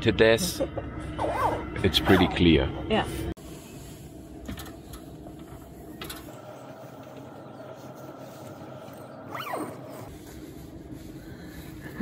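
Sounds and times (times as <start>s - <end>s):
diesel heater droning: 0.0s - 12.0s.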